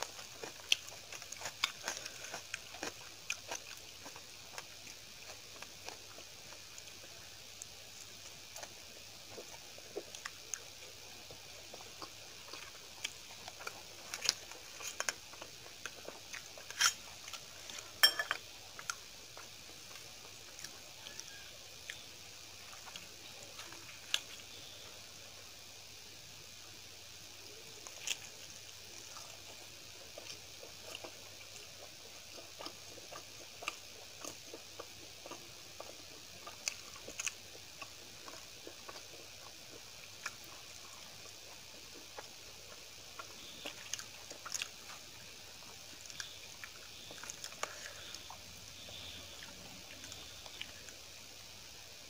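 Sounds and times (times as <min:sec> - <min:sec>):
chewing and mouth sounds: 0:00.0 - 0:24.6, 0:27.5 - 0:51.0
low steady hiss: 0:00.0 - 0:52.0.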